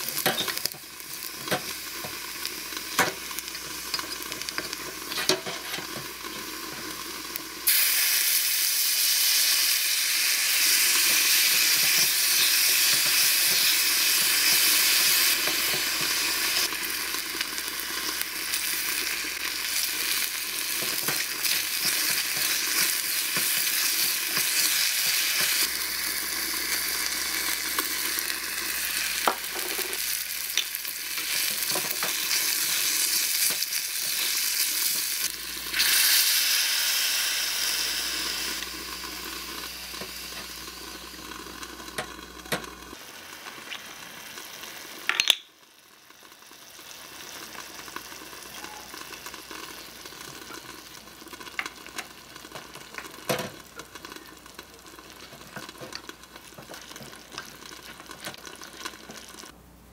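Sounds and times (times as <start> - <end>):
food sizzling in saucepan: 0.0 - 59.6.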